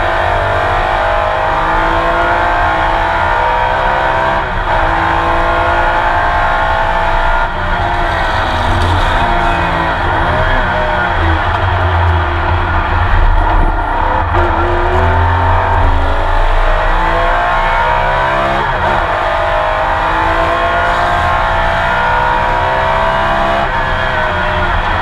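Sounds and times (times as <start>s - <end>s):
racing engine pulling hard: 0.0s - 25.0s.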